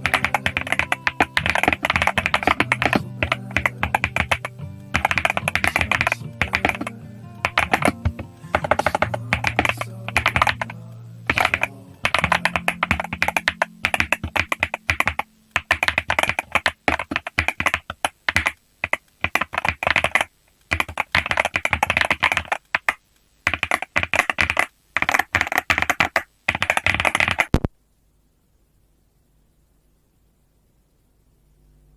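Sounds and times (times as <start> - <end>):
mechanical keyboard typing: 0.0 - 27.7.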